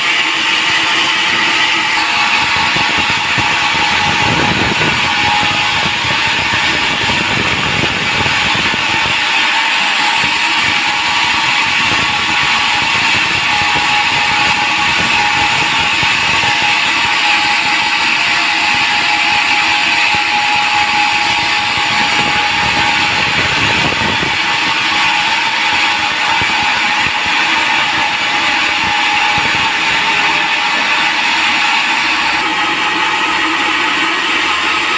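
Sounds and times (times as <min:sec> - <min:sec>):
sawmill saw whining through log: 0:00.0 - 0:34.9.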